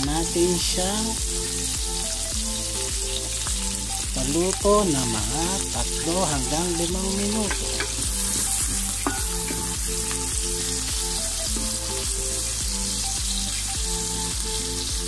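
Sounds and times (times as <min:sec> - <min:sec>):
onions sizzling in oil: 0:00.0 - 0:15.0
soft background music: 0:00.0 - 0:15.0.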